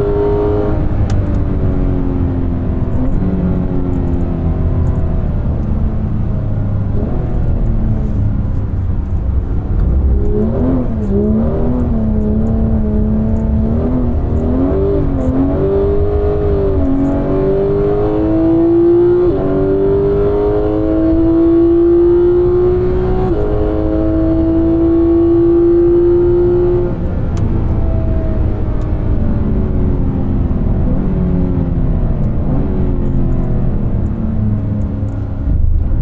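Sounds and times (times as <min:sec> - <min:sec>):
gear changes: 0:00.0 - 0:29.0
car engine revving: 0:00.0 - 0:36.0.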